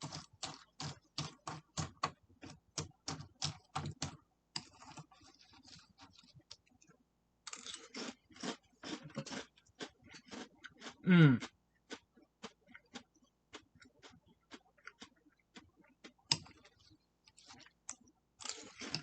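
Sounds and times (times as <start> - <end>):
chewing crunchy cereal: 0.0 - 19.0.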